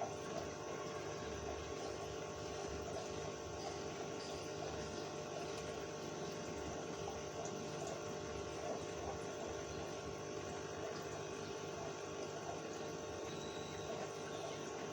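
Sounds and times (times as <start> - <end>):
aquarium pump humming: 0.0 - 14.9
water bubbling and trickling: 0.0 - 14.9.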